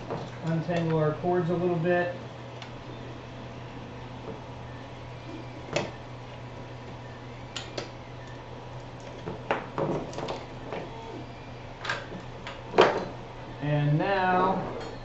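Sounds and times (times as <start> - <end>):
cables and parts clattering: 0.0 - 1.8, 2.5 - 13.3
steady low hum: 0.0 - 15.0.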